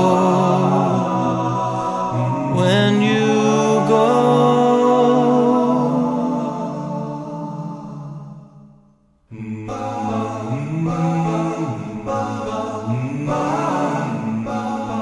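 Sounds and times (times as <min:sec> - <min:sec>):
background music: 0:00.0 - 0:15.0
wordless sustained vocals: 0:00.0 - 0:15.0.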